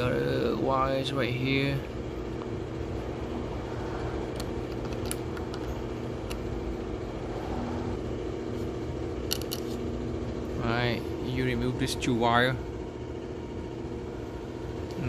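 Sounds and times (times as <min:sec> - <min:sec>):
machine humming with low rumble: 0:00.0 - 0:15.0.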